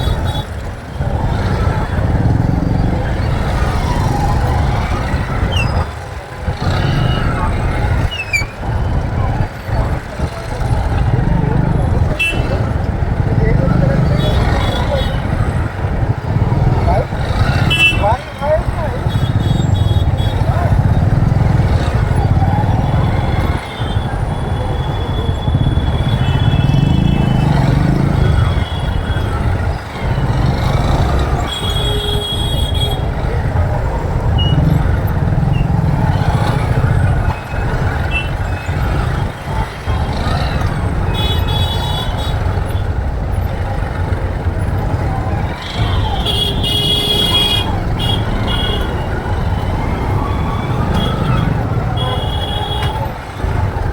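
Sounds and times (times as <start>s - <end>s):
vehicle horns tooting: 0.0s - 5.9s, 11.8s - 15.7s, 16.3s - 42.9s, 44.9s - 53.6s
motorcycle engine running: 0.0s - 53.9s
road and wind noise: 0.0s - 53.9s.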